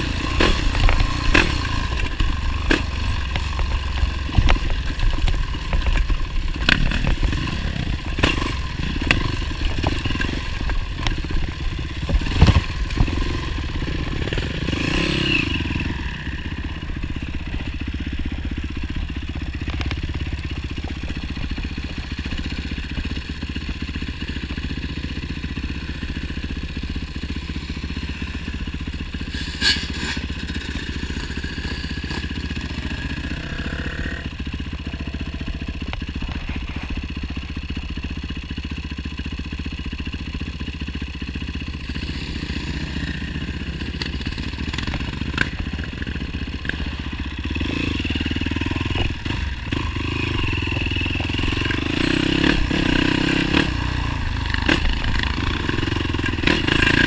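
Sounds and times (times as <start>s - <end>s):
motorcycle engine rattling: 0.0s - 57.0s.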